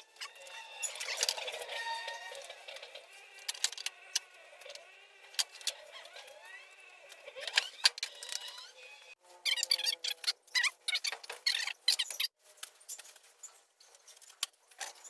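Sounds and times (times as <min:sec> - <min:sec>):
squeaky pitch glides: 0:00.0 - 0:12.3.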